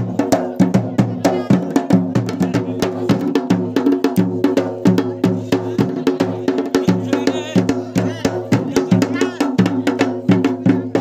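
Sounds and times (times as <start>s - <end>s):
folk drums beating: 0.0s - 11.0s.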